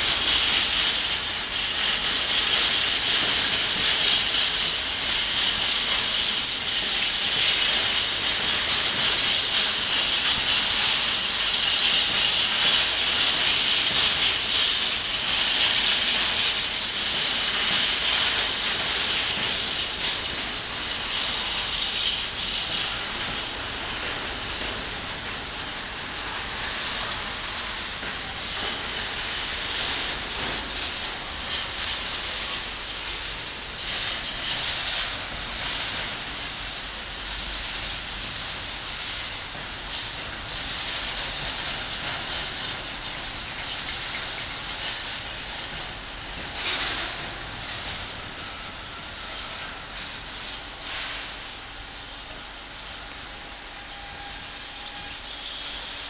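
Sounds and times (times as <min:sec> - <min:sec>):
freight train wheels hissing on rails: 0:00.0 - 0:56.0.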